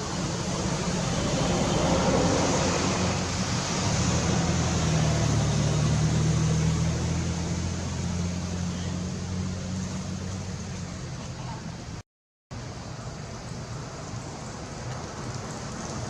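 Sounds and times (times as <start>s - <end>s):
vehicle engine humming: 0.0s - 12.0s, 12.6s - 16.0s.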